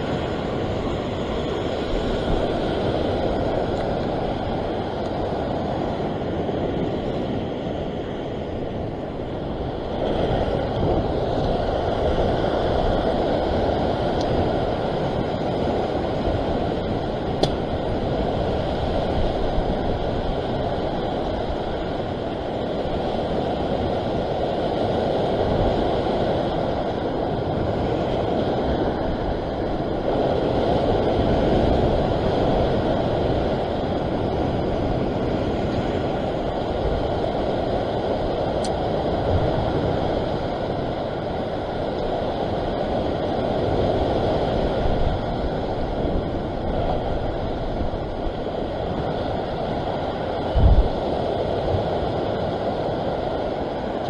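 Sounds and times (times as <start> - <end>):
sea surf: 0.0 - 54.0
wind against microphone: 0.0 - 54.0.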